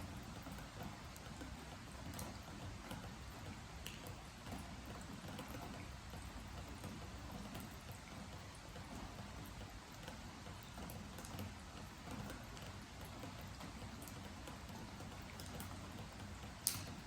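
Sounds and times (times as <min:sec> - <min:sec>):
rain on a wooden deck: 0:00.0 - 0:17.0.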